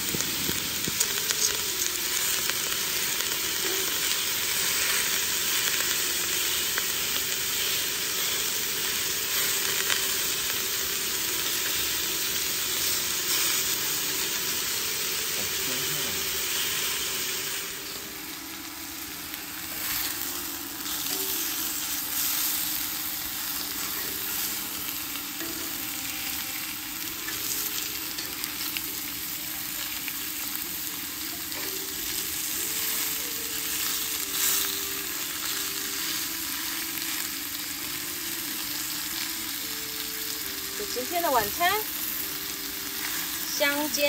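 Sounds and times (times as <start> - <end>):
steaks sizzling in a pan: 0.0 - 44.0.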